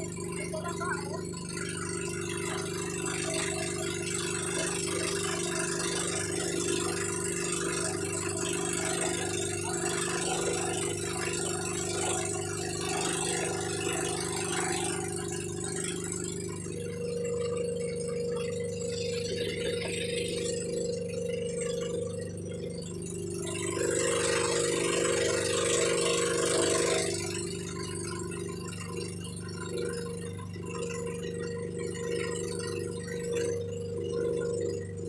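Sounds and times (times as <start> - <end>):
boat engine droning with rattle: 0.0 - 35.0.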